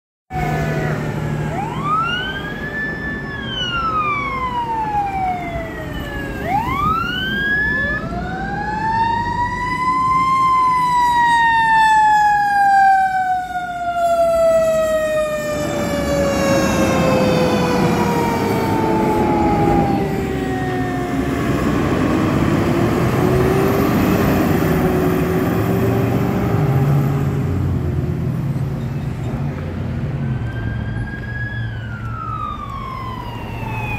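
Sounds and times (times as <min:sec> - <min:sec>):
fire truck siren wailing: 0:00.3 - 0:28.0, 0:29.5 - 0:33.9
diesel engine and road noise: 0:00.3 - 0:33.9.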